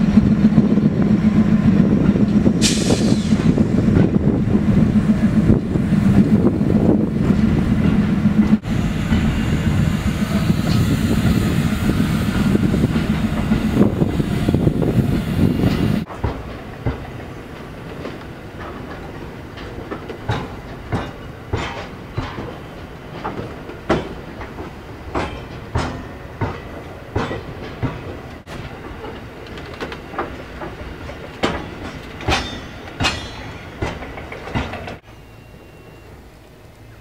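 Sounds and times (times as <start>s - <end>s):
train rumble: 0.0s - 37.0s.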